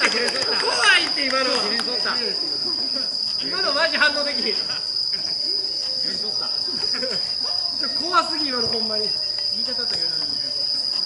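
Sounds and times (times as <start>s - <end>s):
people calling out: 0.0s - 10.9s
night insects droning: 0.0s - 11.0s.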